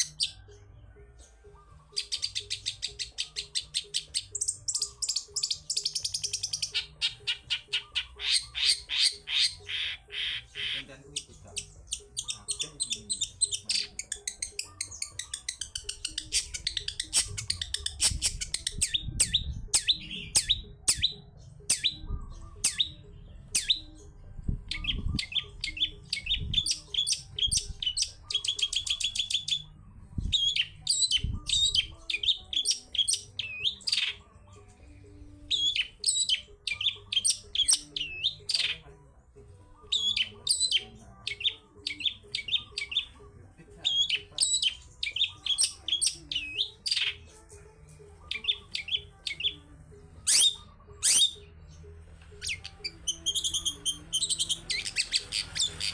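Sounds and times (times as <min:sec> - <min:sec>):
bird singing sharp chattering notes: 0:01.7 - 0:34.2, 0:35.5 - 0:38.8, 0:39.8 - 0:43.2, 0:43.8 - 0:47.2, 0:50.2 - 0:55.9.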